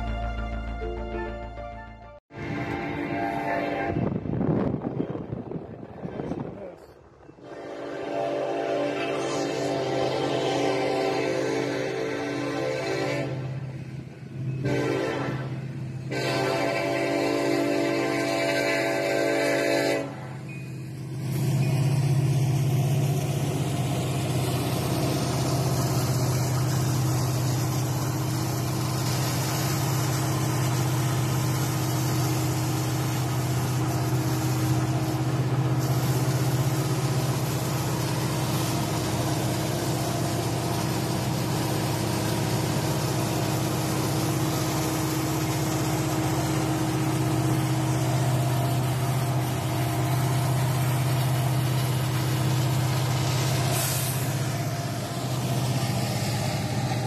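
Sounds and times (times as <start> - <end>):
diesel locomotive engine droning: 0.0 - 57.0.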